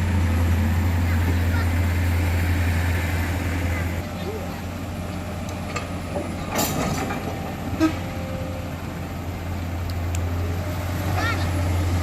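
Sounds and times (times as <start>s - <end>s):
heavy diesel engine drone: 0.0s - 12.0s.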